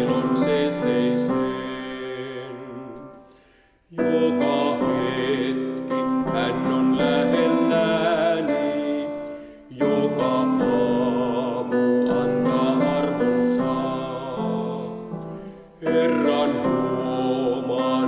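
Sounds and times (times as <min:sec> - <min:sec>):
man singing a hymn: 0:00.0 - 0:03.3, 0:03.9 - 0:18.0
grand piano: 0:00.0 - 0:18.0.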